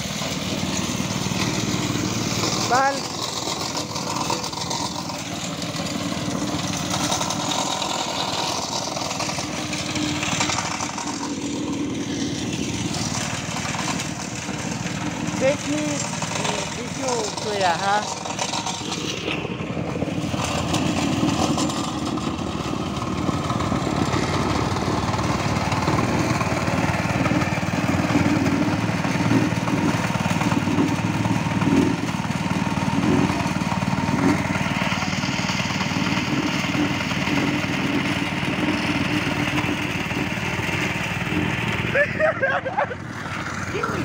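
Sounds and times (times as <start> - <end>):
plate compactor rattling: 0.0 - 44.0.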